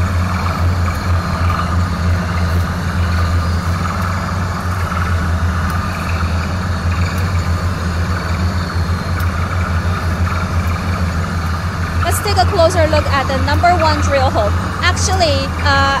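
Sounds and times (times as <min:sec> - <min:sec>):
air compressor engine drone: 0:00.0 - 0:16.0.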